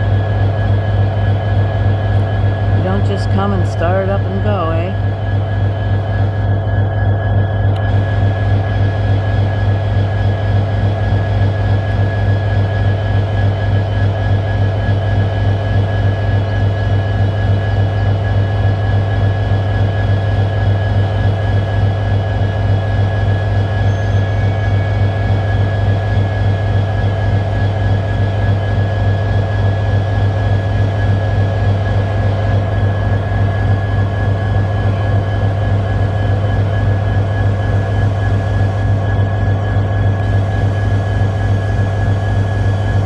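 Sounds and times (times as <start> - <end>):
diesel locomotive idling: 0.0 - 15.2, 22.9 - 43.0
thin steady whine: 0.0 - 43.0.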